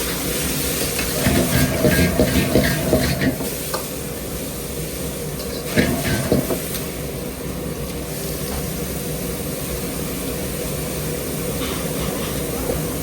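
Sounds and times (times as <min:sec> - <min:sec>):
kitchen cooking hiss: 0:00.0 - 0:13.0.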